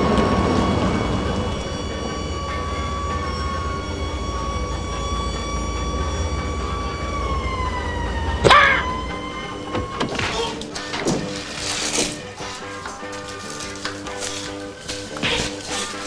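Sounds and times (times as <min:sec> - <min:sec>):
engine whine over low rumble: 0:00.0 - 0:16.0.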